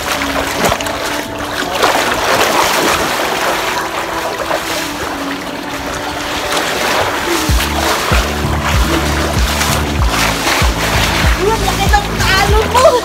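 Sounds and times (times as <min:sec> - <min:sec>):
swimmers splashing water: 0:00.0 - 0:13.0.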